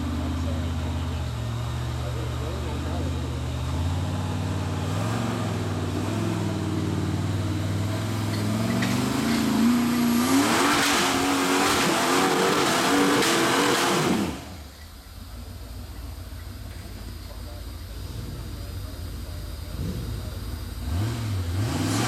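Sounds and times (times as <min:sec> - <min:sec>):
engine revving under load: 0:00.0 - 0:14.7, 0:17.5 - 0:22.0.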